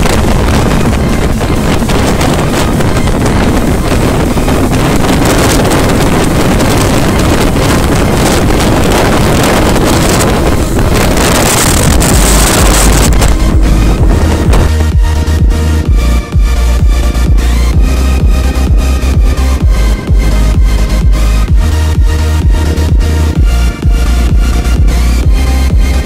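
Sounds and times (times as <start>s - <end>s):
motorcycle road noise: 0.0s - 26.0s
wind rushing over microphone: 0.0s - 26.0s.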